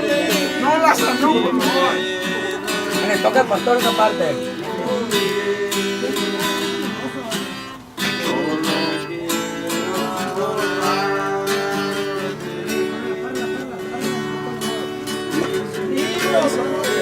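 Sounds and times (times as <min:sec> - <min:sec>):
acoustic guitar strumming: 0:00.0 - 0:17.0
people singing together: 0:00.0 - 0:17.0.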